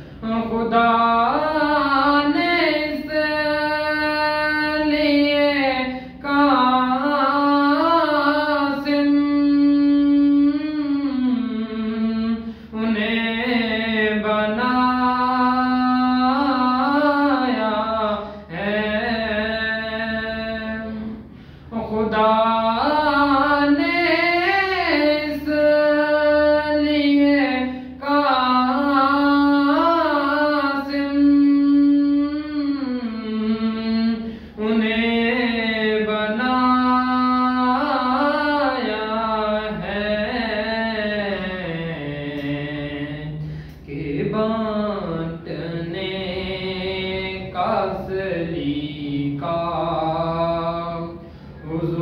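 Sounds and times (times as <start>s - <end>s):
man singing unaccompanied: 0.0s - 52.0s.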